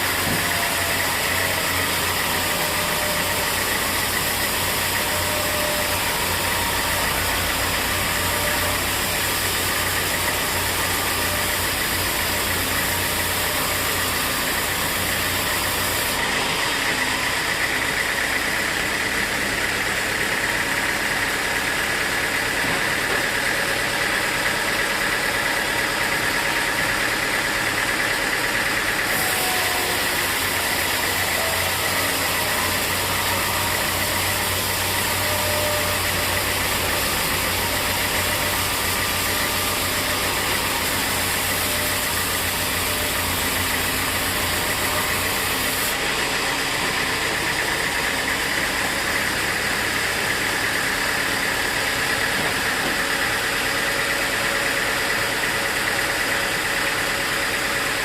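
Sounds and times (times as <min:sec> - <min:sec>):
high mechanical whine: 0:00.0 - 0:58.0
sawmill machinery running: 0:00.0 - 0:58.0.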